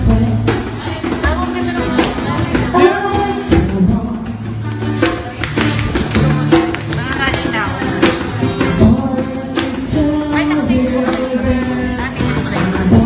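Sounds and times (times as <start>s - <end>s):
person singing: 0.0s - 5.6s, 7.9s - 13.0s
drums steady beat: 0.0s - 13.0s
guitar: 0.0s - 13.0s.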